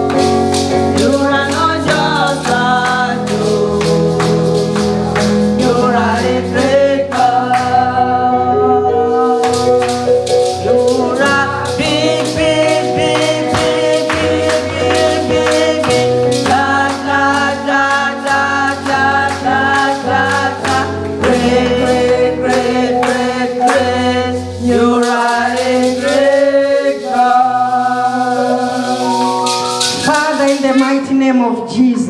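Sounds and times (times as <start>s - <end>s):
choir singing with band: 0.0s - 30.6s.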